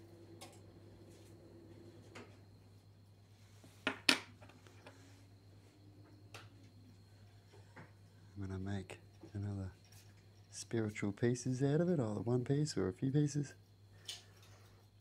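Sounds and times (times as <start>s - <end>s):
low hum: 0.0s - 3.7s, 4.6s - 14.8s.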